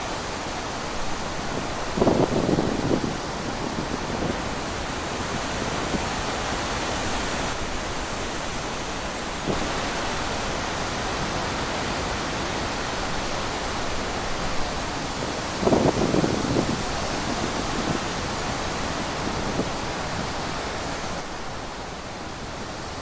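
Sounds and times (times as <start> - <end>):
wind through trees: 0.0 - 23.0.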